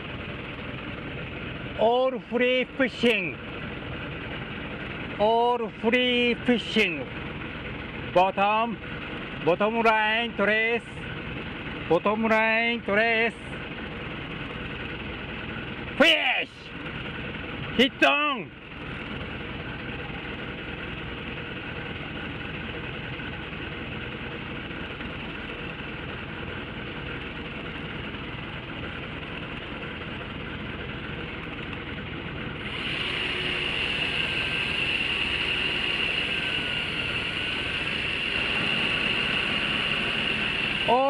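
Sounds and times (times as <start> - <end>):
electric reel motor whine: 0.0 - 16.0, 18.5 - 41.0
boat engine idling: 0.0 - 41.0.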